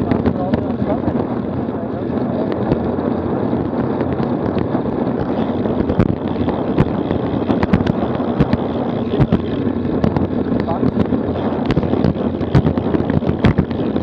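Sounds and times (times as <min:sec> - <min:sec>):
tyres rumbling on tarmac: 0:00.0 - 0:14.0
wind rushing over microphone: 0:00.0 - 0:14.0.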